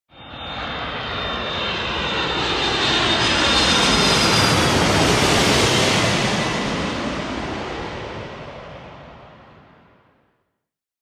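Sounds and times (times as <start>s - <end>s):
jet engine rush: 0.1s - 10.0s.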